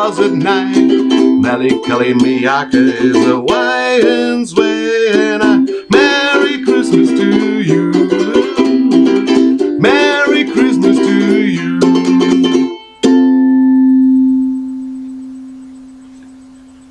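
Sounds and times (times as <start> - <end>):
ukulele strumming: 0.0 - 15.0.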